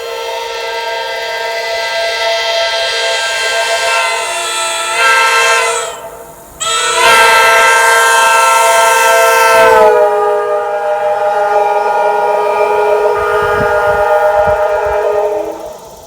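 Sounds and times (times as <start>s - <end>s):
air horn shrill chord: 0.0s - 15.9s.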